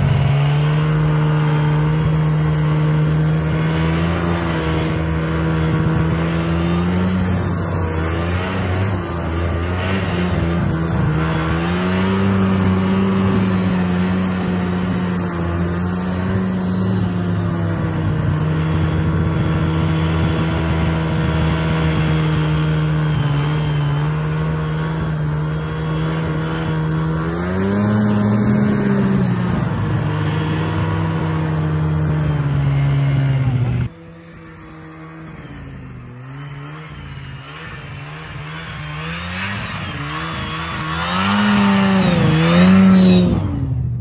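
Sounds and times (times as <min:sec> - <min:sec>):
snowmobile engine running: 0:00.0 - 0:44.0.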